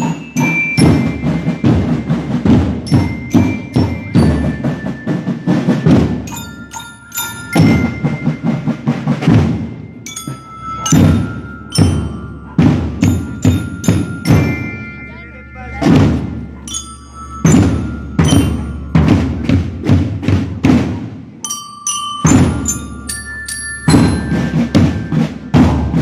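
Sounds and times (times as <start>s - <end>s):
marching drums: 0.0s - 21.4s, 22.0s - 26.0s
bell lyres ringing melody: 0.0s - 26.0s.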